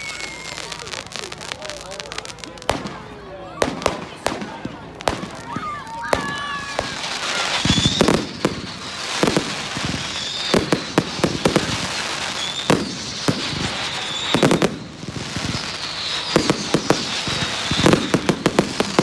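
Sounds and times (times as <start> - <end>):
fireworks crackle: 0.0 - 19.0
fireworks whistles: 0.0 - 19.0.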